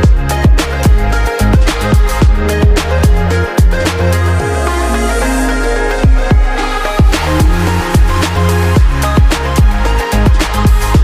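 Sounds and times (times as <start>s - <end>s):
heavy bass line: 0.0s - 11.0s
steady synth notes: 0.0s - 11.0s.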